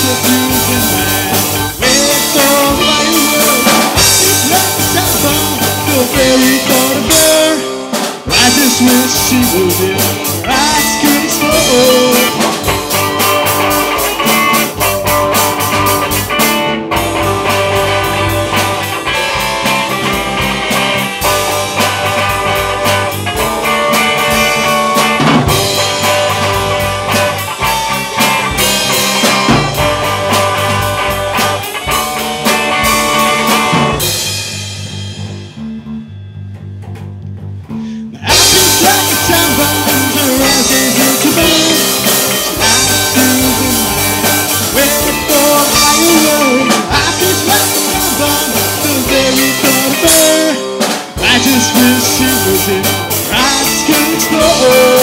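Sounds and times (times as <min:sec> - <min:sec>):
electric guitars: 0:00.0 - 0:36.2, 0:37.7 - 0:55.0
bass guitar: 0:00.0 - 0:55.0
drum kit: 0:00.0 - 0:55.0.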